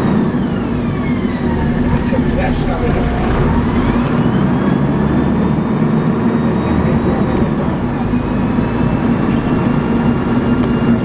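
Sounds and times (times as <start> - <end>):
bus engine drone: 0.0 - 11.0
gearbox whine: 0.0 - 11.0
road noise: 0.0 - 11.0.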